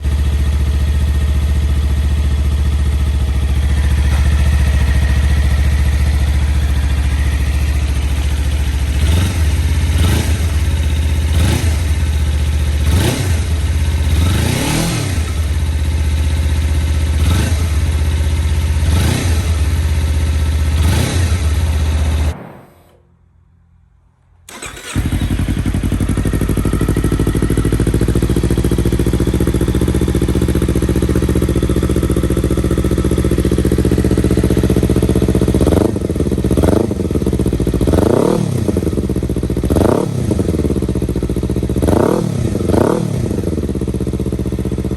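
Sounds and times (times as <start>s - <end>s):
motorcycle engine revving: 0.0s - 23.0s, 24.5s - 44.9s.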